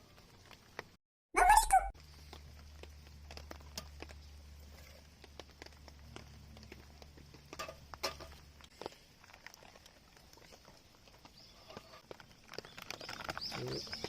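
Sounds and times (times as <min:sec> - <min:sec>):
raindrops tapping on a tarp: 0:00.0 - 0:01.0, 0:02.0 - 0:14.0.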